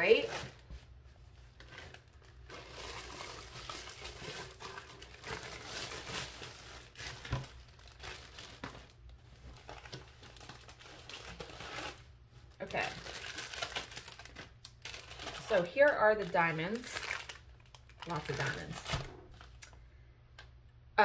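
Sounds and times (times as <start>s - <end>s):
plastic packaging crinkling: 0.0s - 19.8s.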